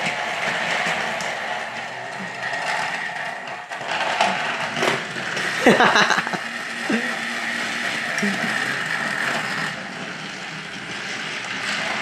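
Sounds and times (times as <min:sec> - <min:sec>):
toy train motor whirring: 0:00.0 - 0:12.0
wheels clattering on track: 0:00.0 - 0:12.0.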